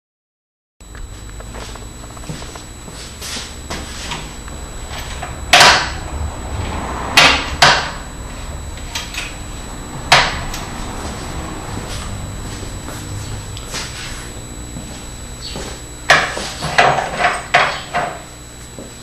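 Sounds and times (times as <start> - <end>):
steady low hum: 0.8 - 19.0.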